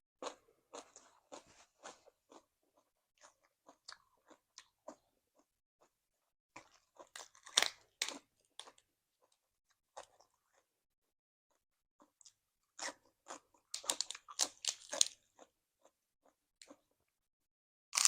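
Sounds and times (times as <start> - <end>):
person chewing crunchy food: 0.2 - 6.0, 6.6 - 10.7, 11.5 - 16.9.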